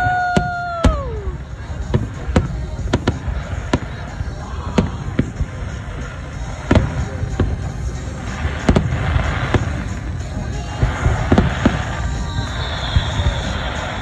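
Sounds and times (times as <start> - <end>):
firework shells bursting: 0.0 - 14.0.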